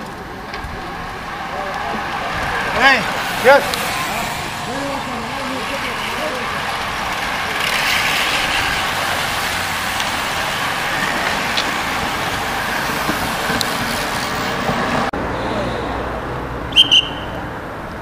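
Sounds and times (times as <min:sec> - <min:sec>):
bicycle tyres hissing and whirring: 0:00.0 - 0:15.1.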